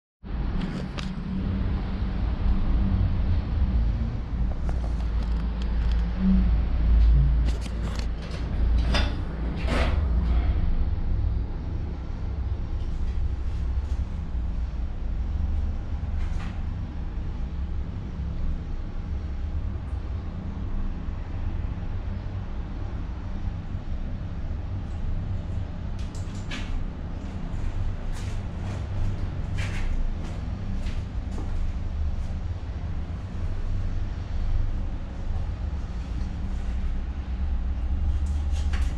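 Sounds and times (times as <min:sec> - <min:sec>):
low machinery hum: 0:00.2 - 0:38.9.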